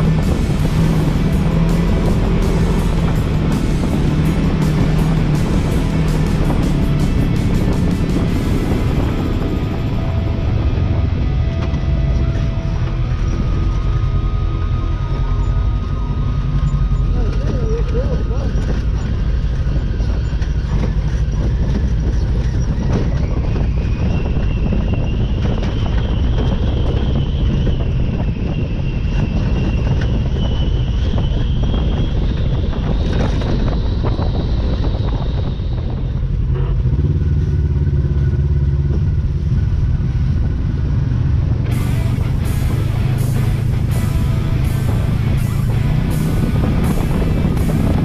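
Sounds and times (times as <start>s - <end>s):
vehicle engine whining: 0.0s - 48.0s.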